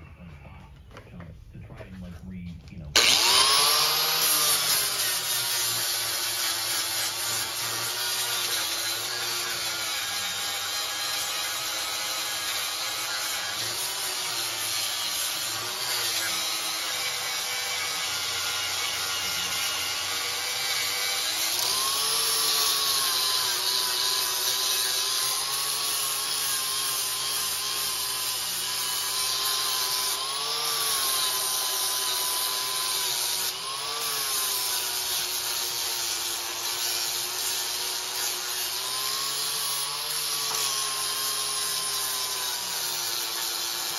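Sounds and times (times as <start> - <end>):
angle grinder grinding steel: 2.9 - 43.9.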